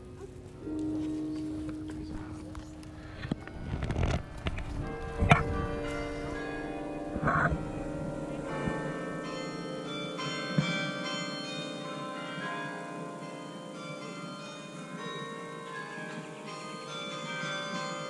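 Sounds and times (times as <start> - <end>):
carillon bells playing melody: 0.0 - 18.0.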